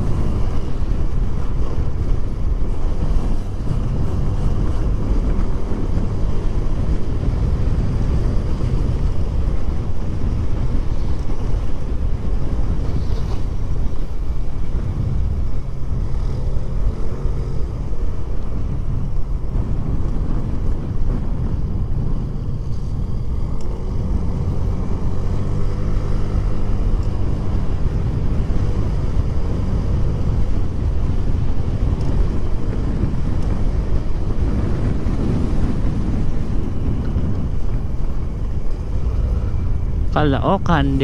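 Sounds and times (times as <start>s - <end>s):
wind on microphone: 0.0s - 41.0s.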